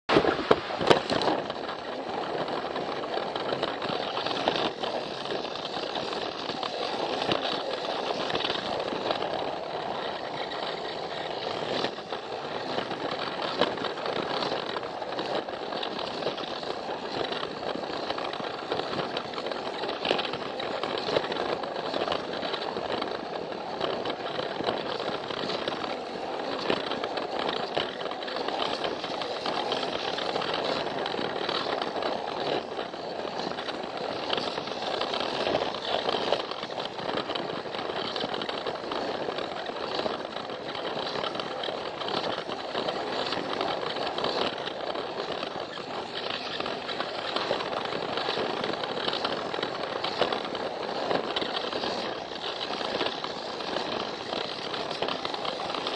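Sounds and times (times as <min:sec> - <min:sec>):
wheels clicking on plastic track: 0:00.1 - 0:55.9
toy train motor buzz: 0:03.4 - 0:55.9.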